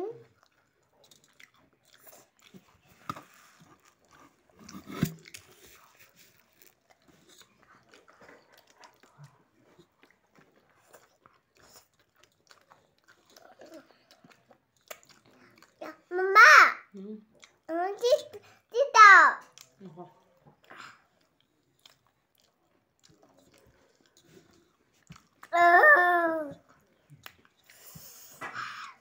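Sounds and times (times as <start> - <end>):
chewing: 0.2 - 16.1, 16.9 - 17.7, 19.4 - 25.6, 26.5 - 29.0.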